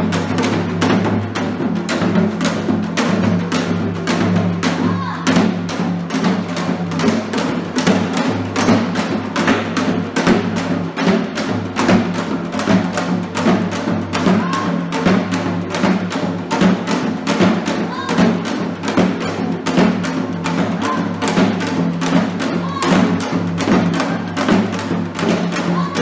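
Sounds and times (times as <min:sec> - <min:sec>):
steady drum strokes: 0:00.0 - 0:26.0
traditional music: 0:00.0 - 0:26.0.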